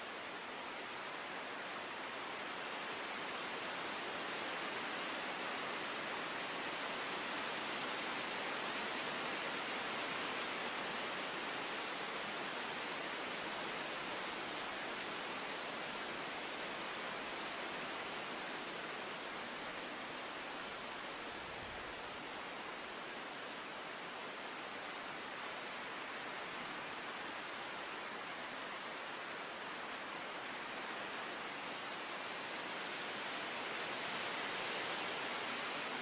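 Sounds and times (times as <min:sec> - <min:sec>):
rushing nature ambience: 0:00.0 - 0:36.0.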